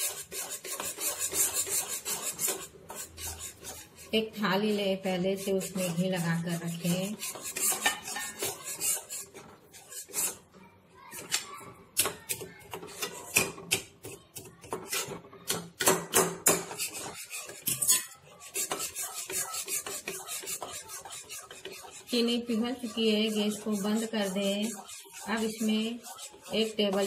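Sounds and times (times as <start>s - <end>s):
metal spatula scraping steel pan: 0.0s - 10.5s, 12.8s - 13.6s, 16.4s - 27.0s.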